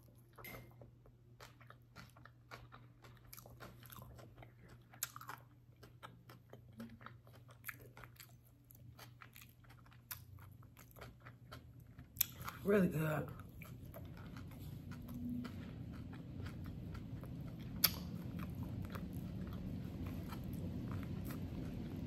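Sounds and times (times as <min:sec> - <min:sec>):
close-up chewing: 0:00.0 - 0:22.0.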